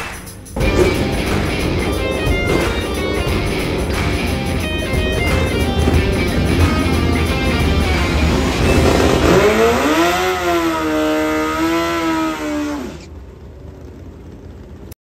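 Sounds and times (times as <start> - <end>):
motorcycle engine revving: 0.6 - 14.9.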